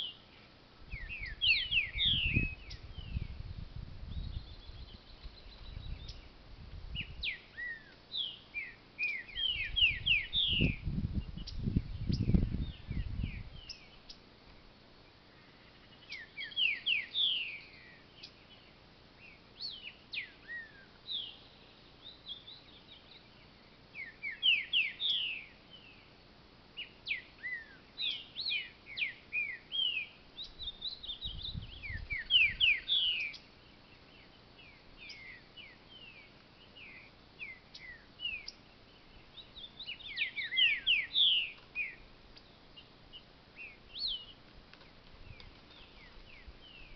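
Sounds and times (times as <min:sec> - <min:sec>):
bird singing whistled notes: 0:00.0 - 0:00.3, 0:00.9 - 0:14.2, 0:15.3 - 0:26.1, 0:26.8 - 0:44.4, 0:45.2 - 0:46.9.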